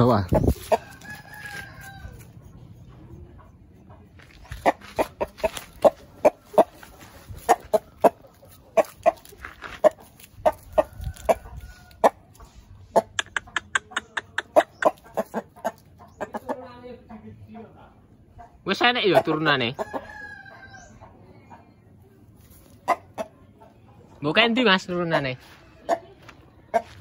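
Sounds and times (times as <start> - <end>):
rooster clucking: 0.0 - 21.8, 22.4 - 24.2, 25.2 - 27.0.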